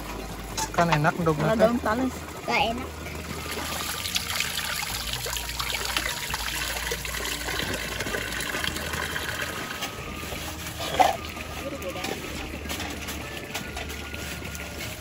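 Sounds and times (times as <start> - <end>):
water running from a spout: 0.0 - 15.0
water splashing on the ground: 2.6 - 15.0.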